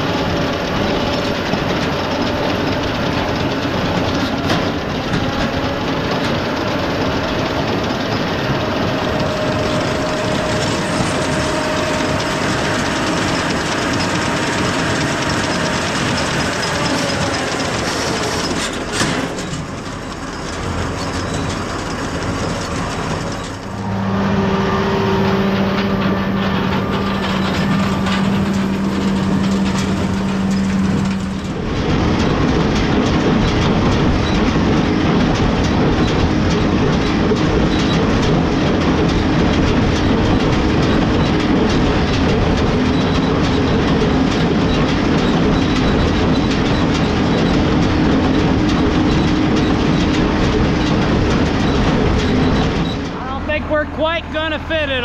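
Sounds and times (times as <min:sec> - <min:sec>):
baler mechanical clatter: 0:00.0 - 0:55.0
tractor diesel engine under load: 0:00.0 - 0:55.0.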